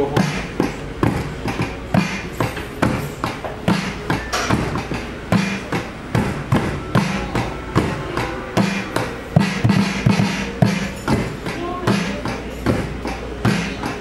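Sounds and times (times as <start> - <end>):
electronic drum thumps and hits: 0.0 - 14.0.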